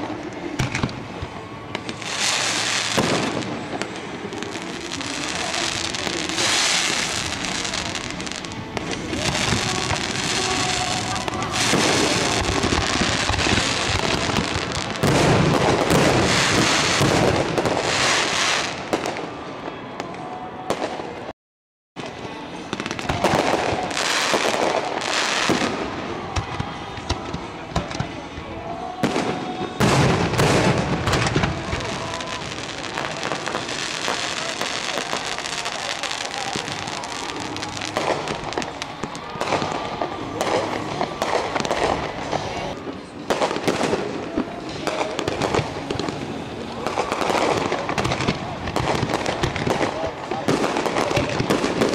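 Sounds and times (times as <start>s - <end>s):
fireworks crackling: 0.0s - 21.3s, 22.0s - 51.9s.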